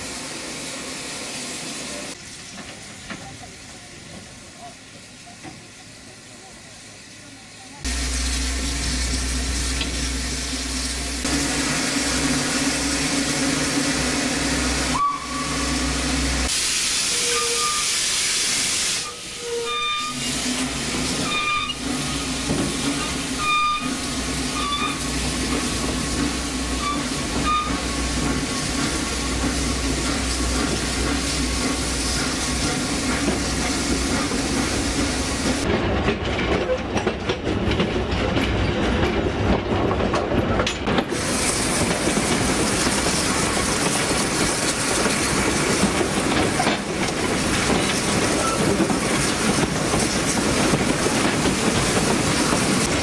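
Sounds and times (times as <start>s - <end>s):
steam locomotive hissing: 0.0s - 35.7s, 40.9s - 53.0s.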